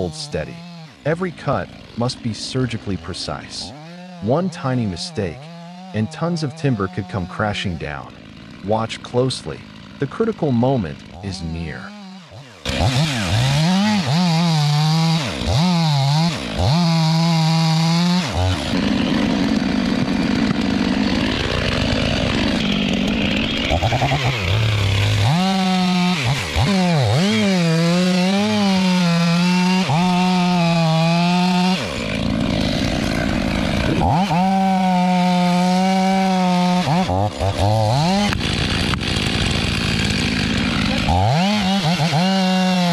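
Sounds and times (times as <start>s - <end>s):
chainsaw running at high revs: 0.0s - 42.9s.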